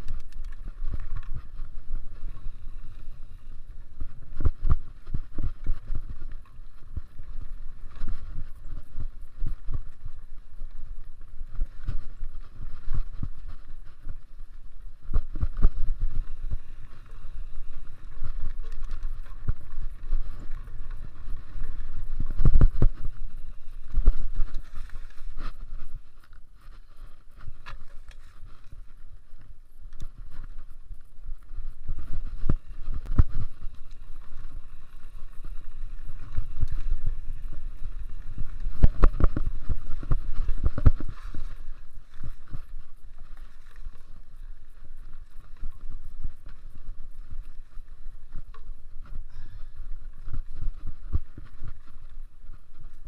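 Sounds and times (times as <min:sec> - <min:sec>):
bike knocking and rattling: 0:00.0 - 0:53.0
bike tyres rumbling on trail: 0:00.0 - 0:53.0.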